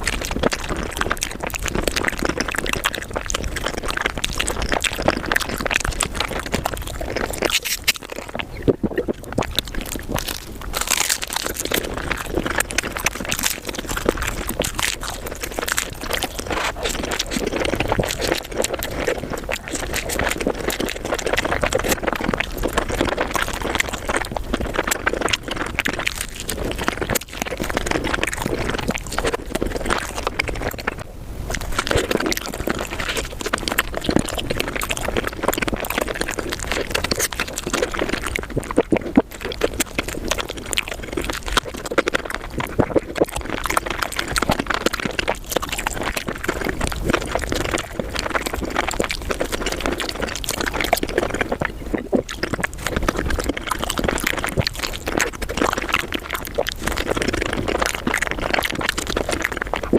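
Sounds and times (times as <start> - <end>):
sped up wet chewing and slurping: 0.0 - 59.9.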